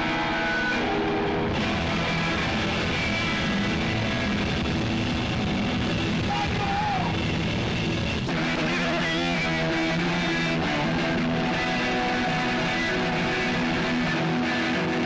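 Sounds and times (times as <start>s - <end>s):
live rock band: 0.0s - 15.0s
loud electric guitar: 0.0s - 15.0s.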